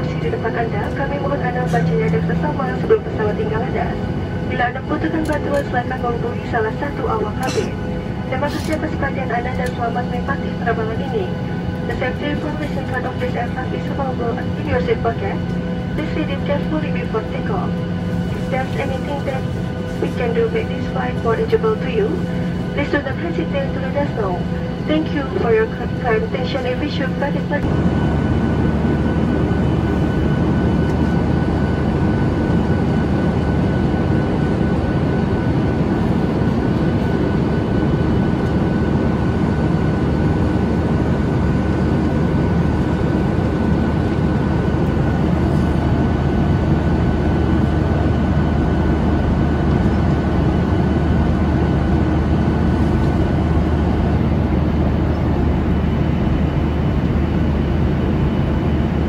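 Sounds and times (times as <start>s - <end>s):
jet engine cabin rumble: 0.0s - 59.0s.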